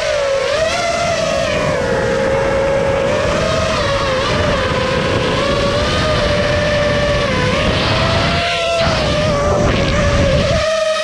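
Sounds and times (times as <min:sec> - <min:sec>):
drone motors and propellers whining: 0:00.0 - 0:11.0.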